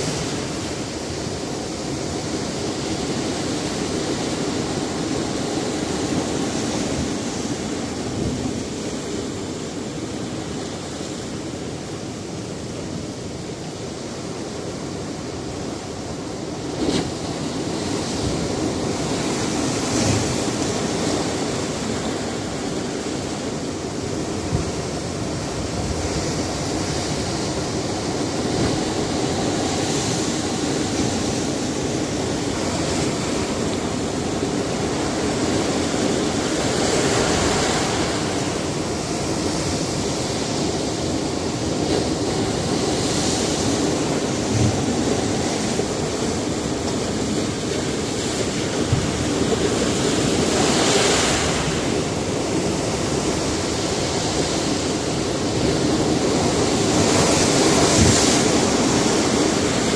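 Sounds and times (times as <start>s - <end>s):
waves breaking on rocky shore: 0.0s - 59.9s.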